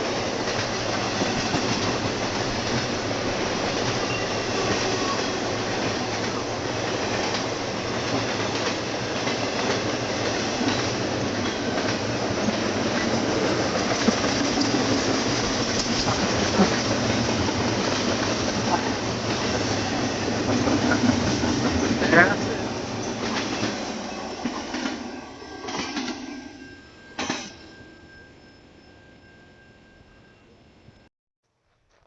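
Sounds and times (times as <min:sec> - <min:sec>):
rail joint clacks: 0:00.0 - 0:26.4, 0:27.1 - 0:27.8
freight train wheels rumbling: 0:00.0 - 0:30.3.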